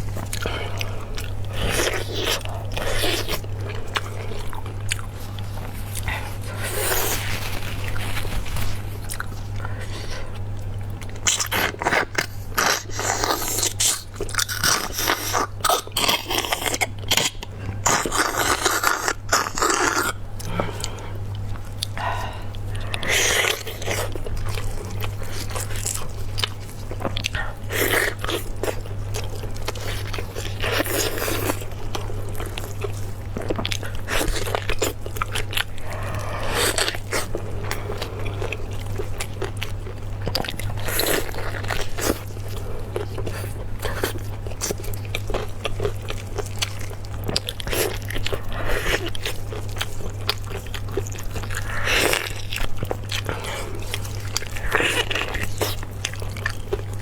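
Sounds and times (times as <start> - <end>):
chewing: 0.0 - 57.0.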